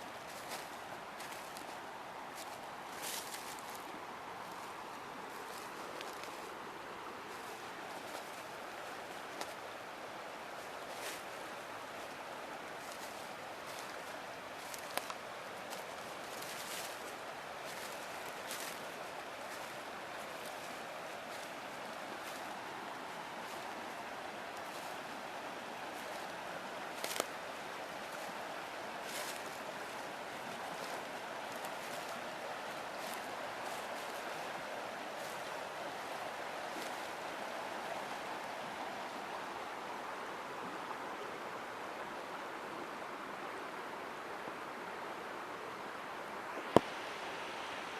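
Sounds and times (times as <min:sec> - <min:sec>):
river water running: 0:00.0 - 0:47.9.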